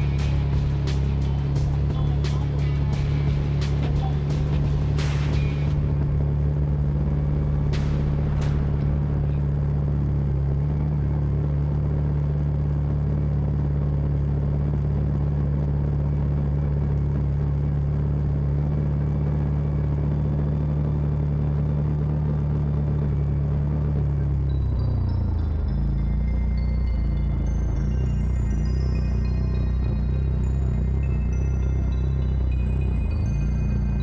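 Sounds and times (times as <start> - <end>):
utility vehicle engine droning: 0.0 - 34.0.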